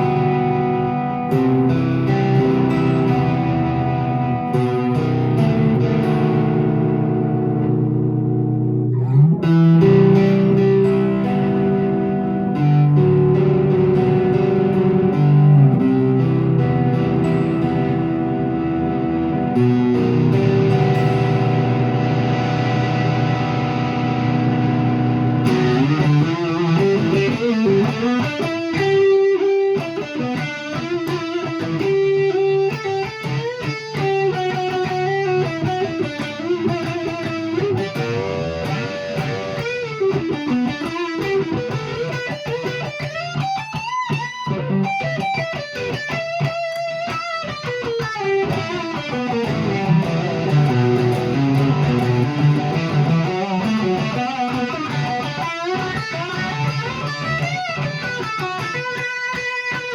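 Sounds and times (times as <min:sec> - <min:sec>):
electric guitar lead lines: 0:00.0 - 0:59.9.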